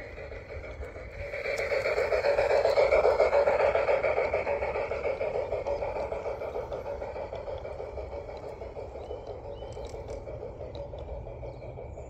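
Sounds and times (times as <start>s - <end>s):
model train wheels rumbling on rails: 0.0s - 12.0s.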